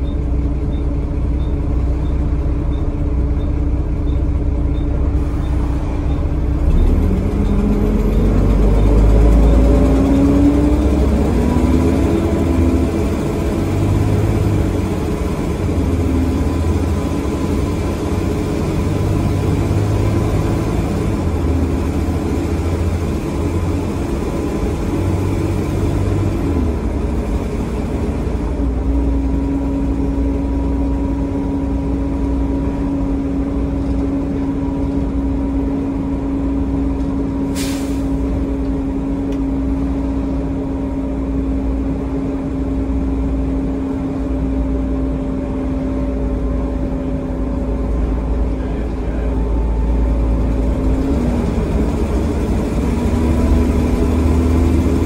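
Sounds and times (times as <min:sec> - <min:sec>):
bus engine pulling away: 0:00.0 - 0:55.0.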